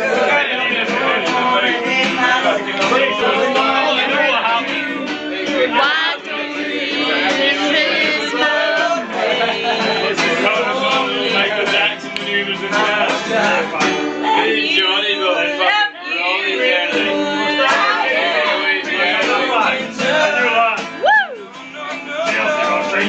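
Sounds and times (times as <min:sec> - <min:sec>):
acoustic guitar strumming: 0:00.0 - 0:23.0
people singing: 0:00.0 - 0:23.0.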